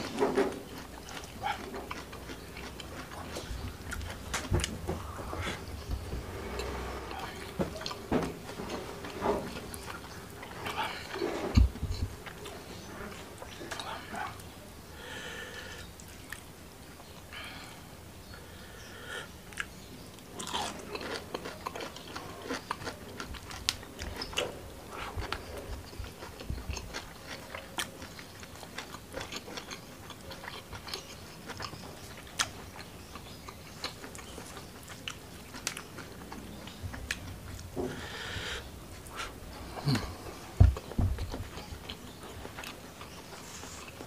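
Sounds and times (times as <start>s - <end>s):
chewing and crunching: 0.0s - 14.6s, 19.5s - 44.0s.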